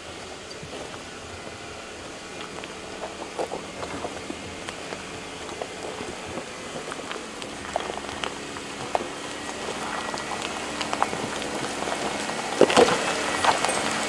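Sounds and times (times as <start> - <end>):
car engine running low: 0.0 - 14.0
tyres crunching over gravel: 0.0 - 14.0.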